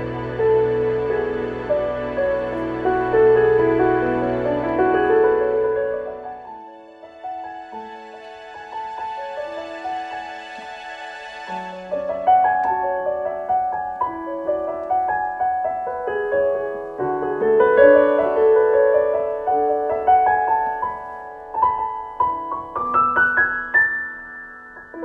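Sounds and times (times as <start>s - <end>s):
piano playing broken chords: 0.0s - 25.0s.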